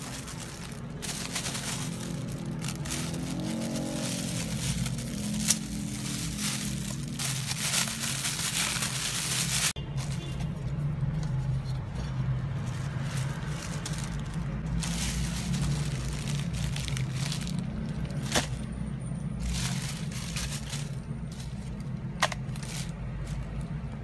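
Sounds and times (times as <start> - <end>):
plastic packaging crinkling: 0.0 - 10.4, 12.3 - 18.7, 19.4 - 23.8.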